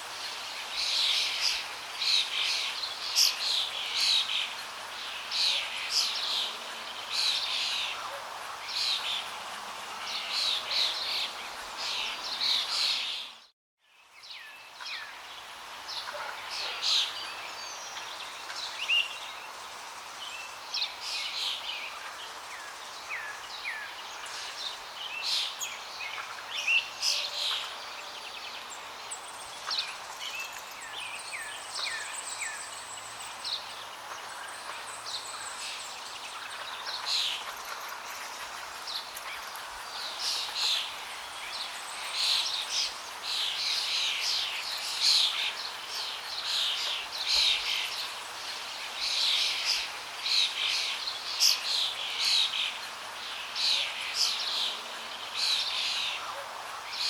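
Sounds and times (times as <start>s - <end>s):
small birds chirping: 9.9s - 57.0s.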